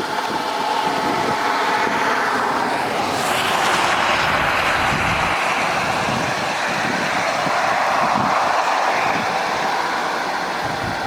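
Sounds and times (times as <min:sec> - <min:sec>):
car tyre and wind noise: 0:00.0 - 0:11.0.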